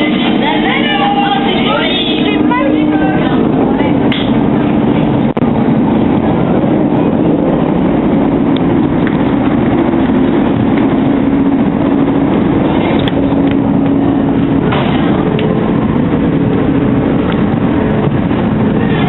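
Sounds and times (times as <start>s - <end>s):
low hum: 0.0s - 19.0s
train running rumble: 0.0s - 19.0s.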